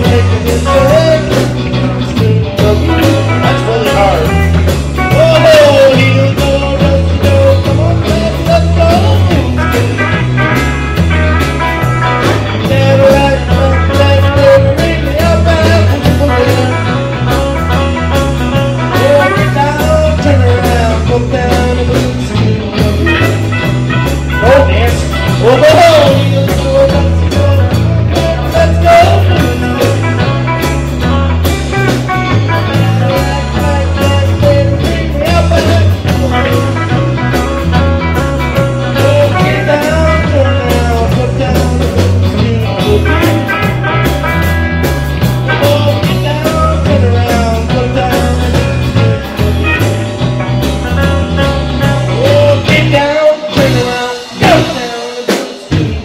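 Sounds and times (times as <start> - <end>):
bass line: 0.0 - 56.0
drums: 0.0 - 56.0
rock band playing: 0.0 - 56.0.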